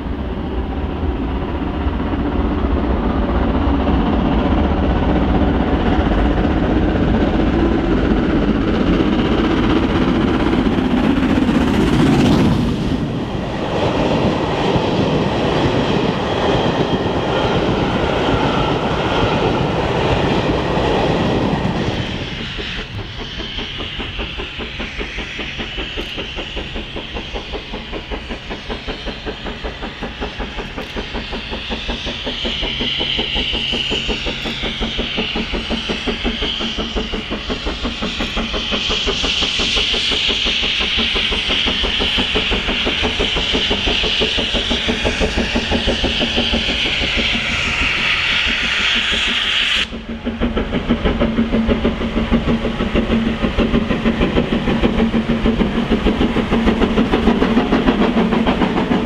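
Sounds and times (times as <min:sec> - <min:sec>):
hiss of steam: 0:00.0 - 0:59.0
steam locomotive exhaust beats: 0:00.0 - 0:59.0.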